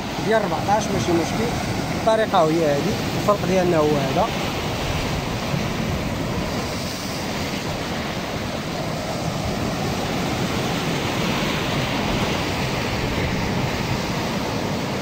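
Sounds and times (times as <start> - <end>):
surf breaking against rocks: 0.0 - 15.0.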